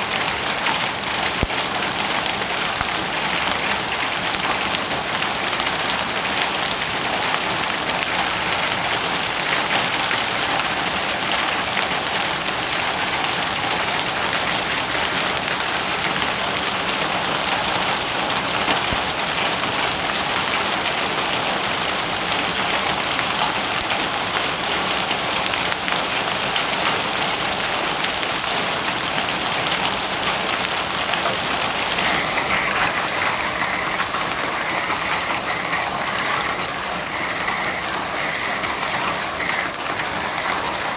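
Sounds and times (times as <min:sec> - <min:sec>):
hail and rain on pavement: 0:00.0 - 0:40.9.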